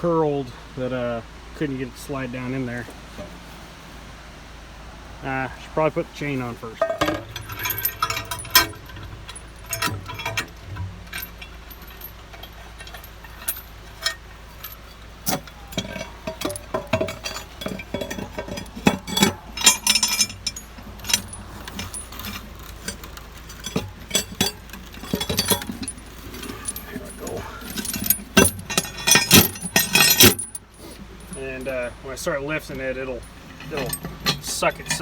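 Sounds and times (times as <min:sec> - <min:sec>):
steel chain rattling and clinking: 0:06.7 - 0:35.0.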